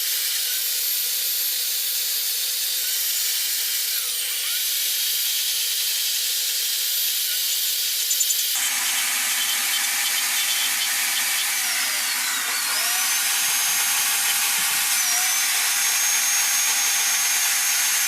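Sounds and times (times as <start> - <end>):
chainsaw cutting wood: 2.8 - 18.0.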